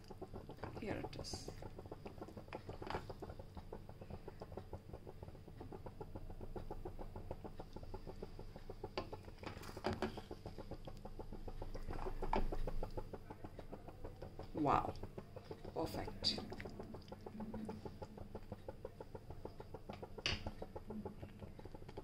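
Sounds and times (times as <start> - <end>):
sauce bubbling in a pan: 0.0 - 22.0
spatula strokes through pasta: 0.0 - 22.0.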